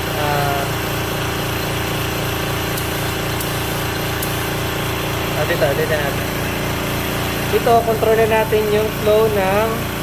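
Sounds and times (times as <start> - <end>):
air compressor running: 0.0 - 10.0.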